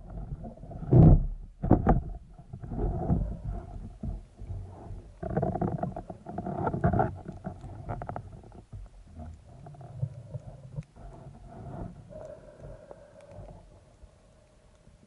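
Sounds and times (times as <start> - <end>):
muffled underwater rumble: 0.0 - 15.0
small clicks and knocks: 0.9 - 14.9.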